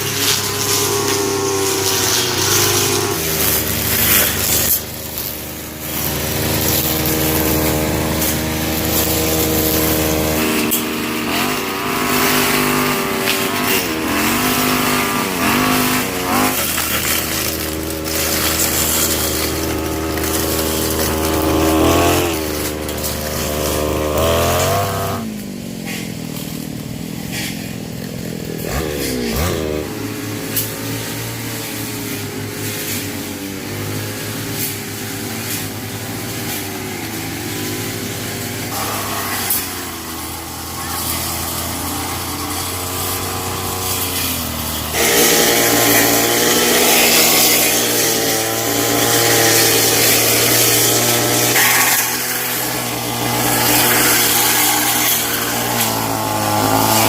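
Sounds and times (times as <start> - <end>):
small petrol engine revving: 0.0 - 57.0.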